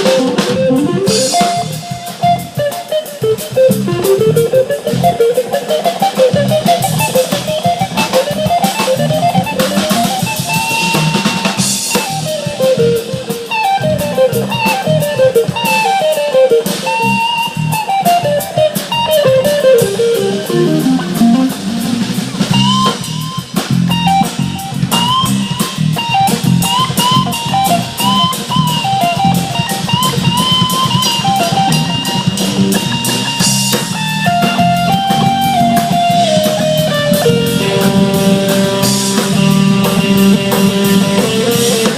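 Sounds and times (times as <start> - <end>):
bass line: 0.0 - 15.8, 16.7 - 41.9
drum kit: 0.0 - 41.9
lead guitar runs: 0.0 - 41.9.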